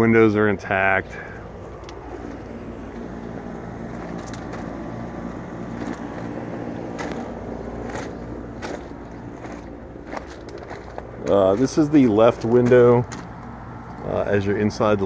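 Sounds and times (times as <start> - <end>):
low mechanical hum and rumble: 0.0 - 15.0
light footsteps: 1.6 - 14.1.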